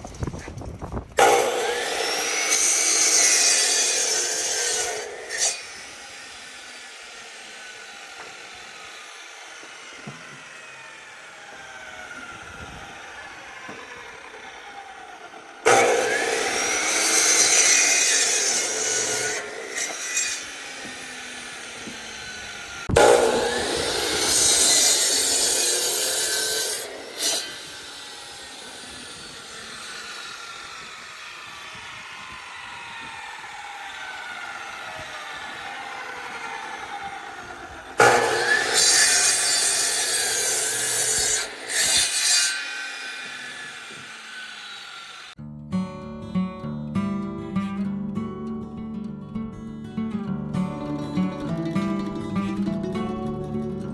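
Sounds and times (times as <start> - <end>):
band sawmill sawing wood: 1.2 - 45.4.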